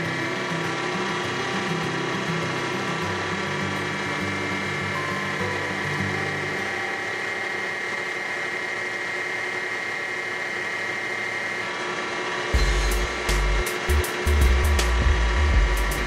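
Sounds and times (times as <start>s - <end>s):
wood lathe whining: 0.0s - 16.0s.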